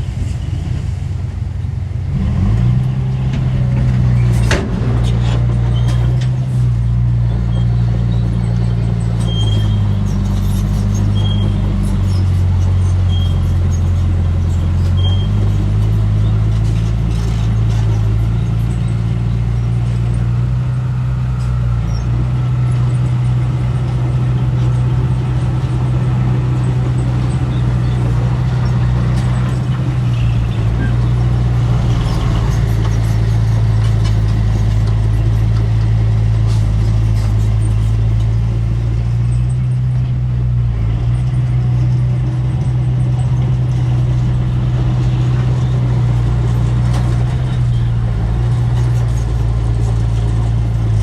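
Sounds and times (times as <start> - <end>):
heavy diesel engine running: 0.0 - 51.0.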